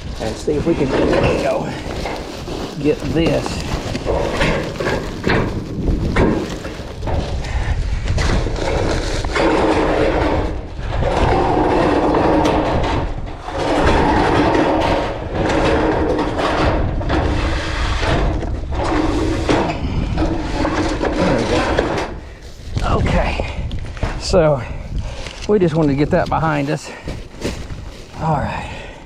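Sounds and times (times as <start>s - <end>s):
metal scraping over roof panels: 0.0s - 28.3s
steady low rumble: 0.0s - 29.0s.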